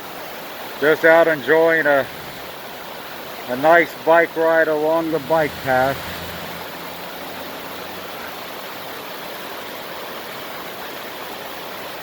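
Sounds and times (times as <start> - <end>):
creek rushing over waterfall: 0.0 - 12.0.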